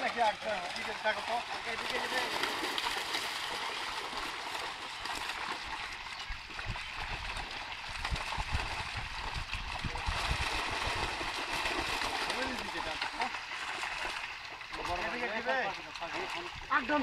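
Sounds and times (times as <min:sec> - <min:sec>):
fish thrashing in water: 0:00.0 - 0:17.0.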